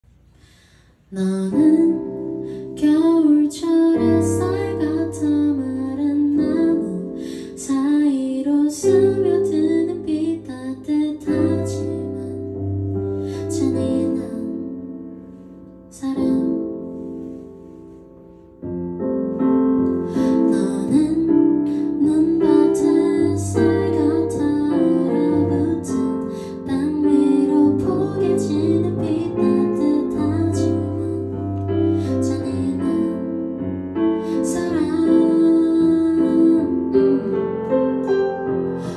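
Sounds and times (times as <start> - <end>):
woman singing: 1.1 - 14.9, 15.9 - 17.2, 19.9 - 38.9
digital piano: 1.1 - 38.9.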